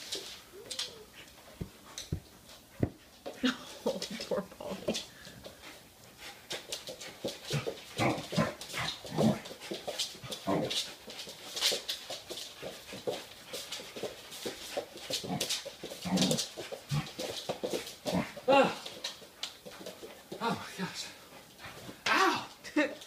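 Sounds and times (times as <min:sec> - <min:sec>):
claws scrabbling on hardwood floor: 0:00.0 - 0:20.4.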